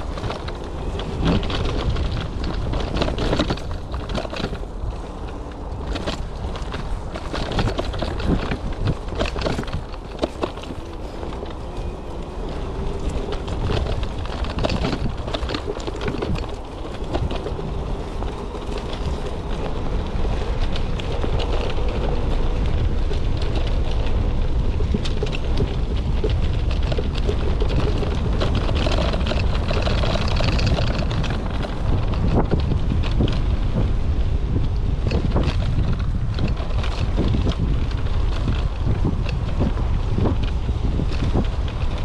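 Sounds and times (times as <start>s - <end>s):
bike knocks and rattles: 0.0s - 42.0s
wind rumble on microphone: 0.0s - 42.0s.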